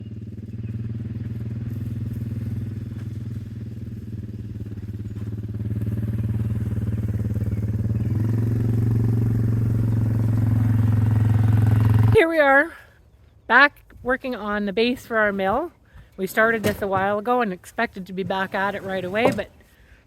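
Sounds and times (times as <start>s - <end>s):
tractor engine running: 0.0s - 12.8s, 13.5s - 20.0s.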